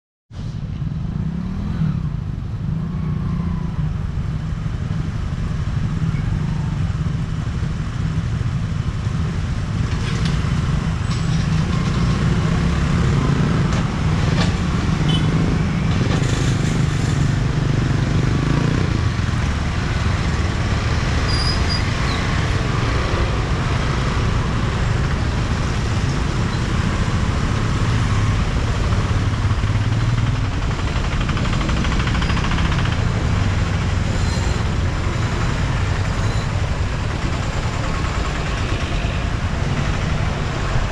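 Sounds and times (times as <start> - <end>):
traffic engines idling and pulling away: 0.4 - 40.9.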